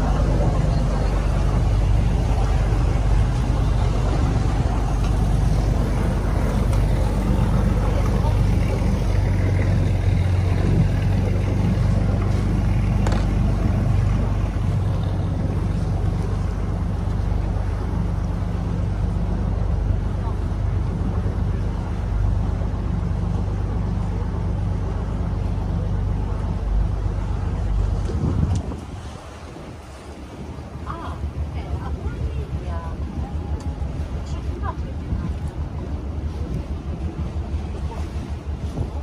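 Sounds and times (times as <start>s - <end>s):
boat engine drone: 0.0s - 39.0s
water rushing along hull: 0.0s - 39.0s.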